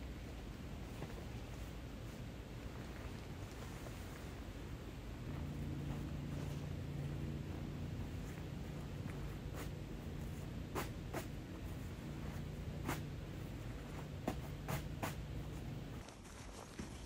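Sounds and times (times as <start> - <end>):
faint low hum: 0.0 - 17.0
sheet being folded rustling: 0.1 - 17.0.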